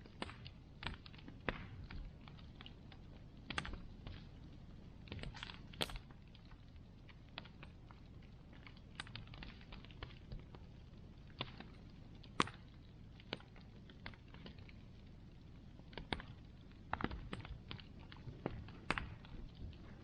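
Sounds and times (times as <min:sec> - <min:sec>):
bonfire crackling: 0:00.0 - 0:20.0
low fire rumble: 0:00.0 - 0:20.0.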